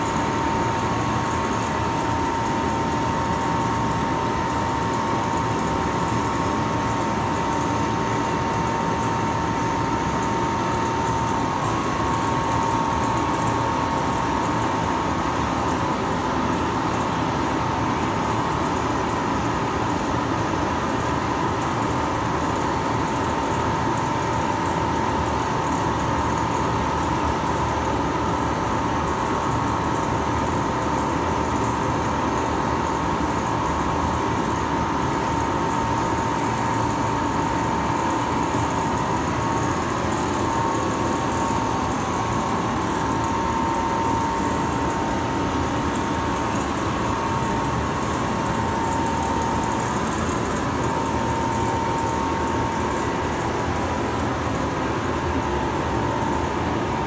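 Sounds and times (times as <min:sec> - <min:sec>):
constant high hum: 0:00.0 - 0:57.0.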